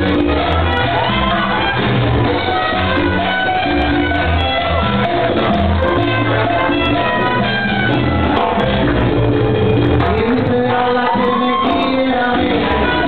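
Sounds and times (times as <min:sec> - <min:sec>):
orchestra playing latin dance music: 0:00.0 - 0:13.0.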